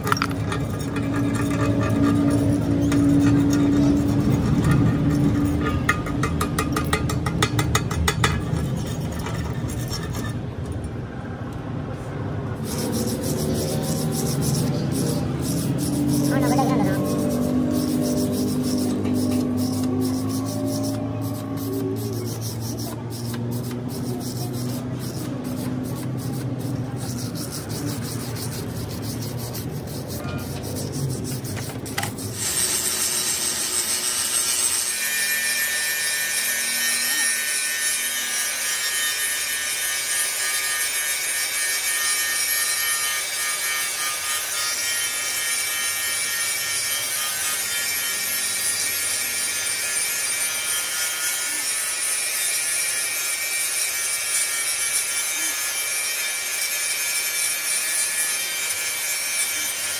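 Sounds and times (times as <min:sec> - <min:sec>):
angle grinder grinding metal: 0:00.0 - 0:11.0, 0:12.6 - 0:59.9
hand tool scraping metal: 0:00.0 - 0:11.3, 0:12.5 - 0:59.9.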